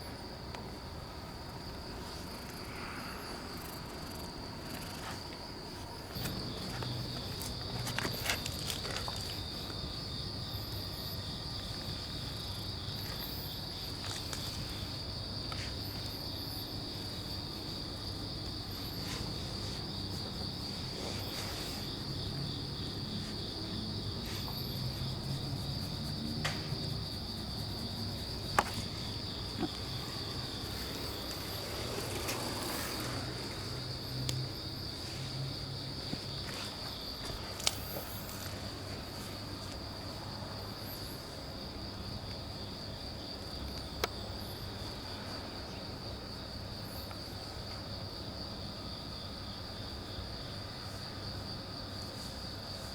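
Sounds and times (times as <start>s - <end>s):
crickets chirring: 0.0s - 52.9s.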